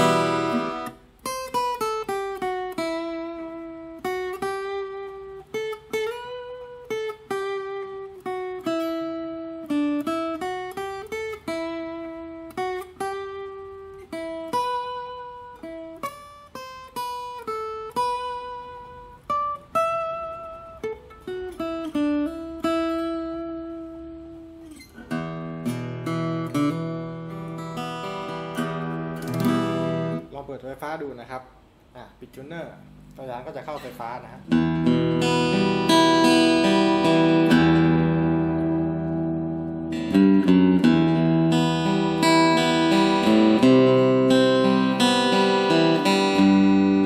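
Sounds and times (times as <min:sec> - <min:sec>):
strummed guitar chord: 0:00.0 - 0:16.0, 0:19.8 - 0:30.3, 0:33.7 - 0:47.0
acoustic guitar plucked melody: 0:00.0 - 0:30.4, 0:32.8 - 0:47.0.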